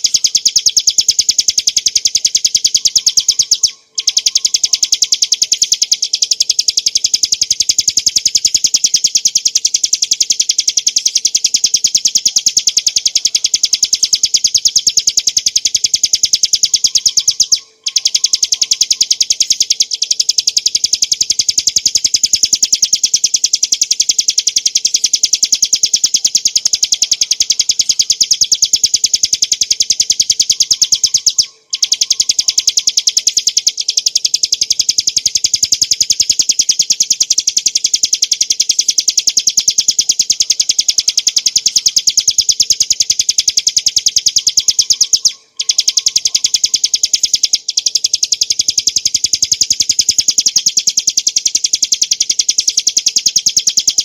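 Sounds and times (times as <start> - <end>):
bird singing chattering trill: 0.0 - 54.0.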